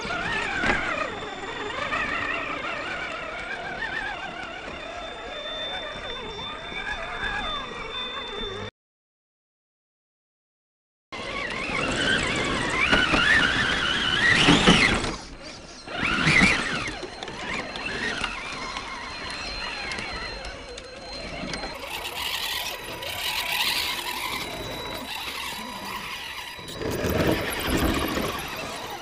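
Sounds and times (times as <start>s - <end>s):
electric motors whining: 0.0s - 8.7s, 11.2s - 29.0s.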